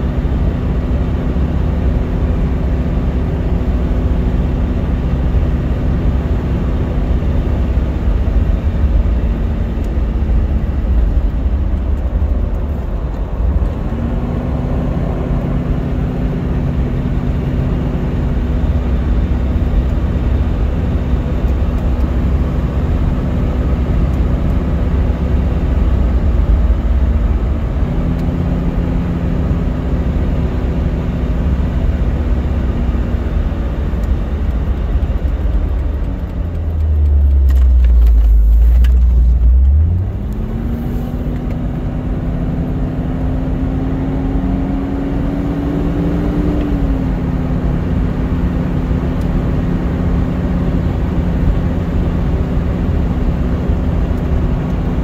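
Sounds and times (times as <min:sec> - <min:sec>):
car engine cruising: 0:00.0 - 0:55.0
deep rumble: 0:00.0 - 0:55.0
road and tyre noise: 0:00.0 - 0:55.0.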